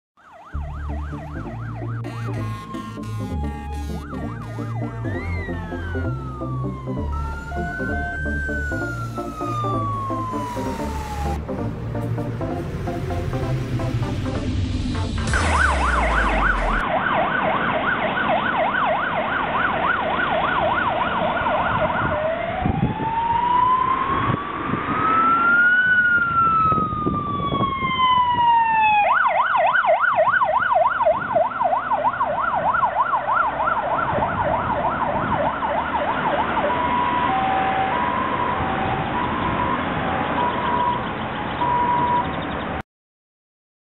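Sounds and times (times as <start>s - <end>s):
fire truck siren: 0.2s - 42.4s
vehicle and road noise: 0.2s - 42.8s.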